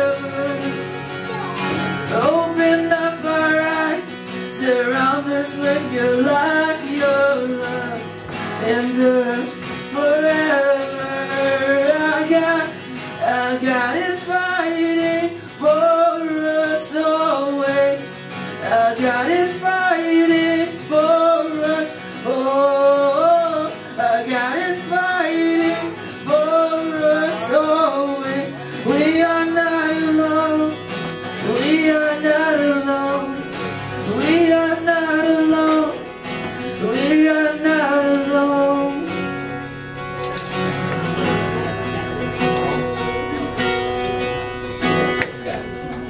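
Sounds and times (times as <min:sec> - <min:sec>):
strummed acoustic guitar: 0:00.0 - 0:46.0.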